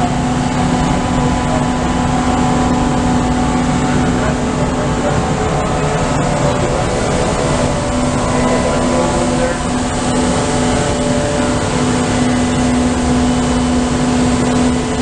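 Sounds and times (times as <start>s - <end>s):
grinding machine humming: 0.0s - 15.0s.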